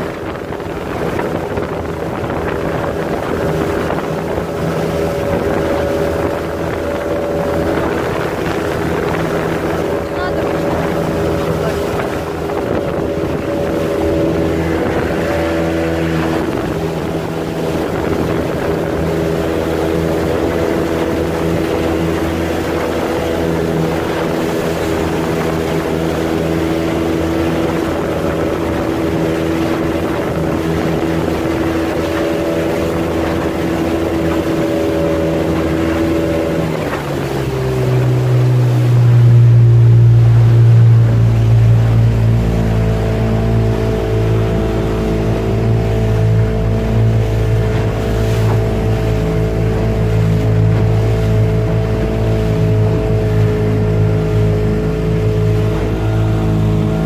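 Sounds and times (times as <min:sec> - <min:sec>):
motorboat engine running: 0:00.0 - 0:57.0
water noise: 0:00.0 - 0:57.0
wind: 0:00.0 - 0:57.0.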